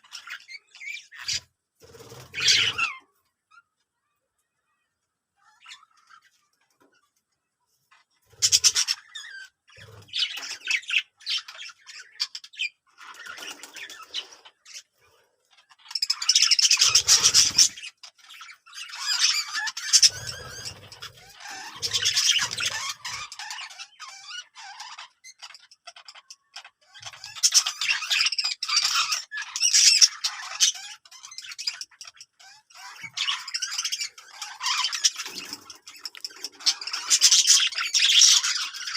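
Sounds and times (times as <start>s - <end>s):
birds squawking and chattering: 0.0s - 38.9s.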